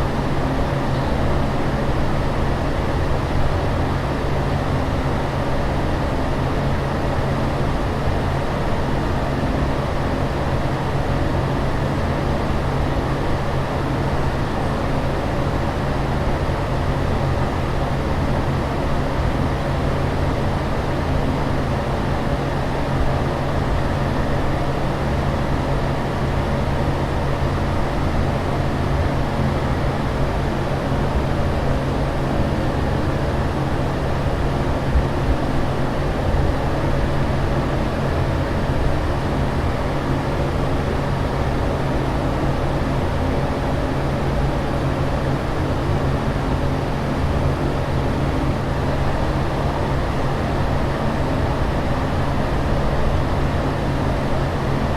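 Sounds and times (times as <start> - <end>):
constant low hum: 0.0 - 54.9
engine and ventilation rush: 0.0 - 54.9.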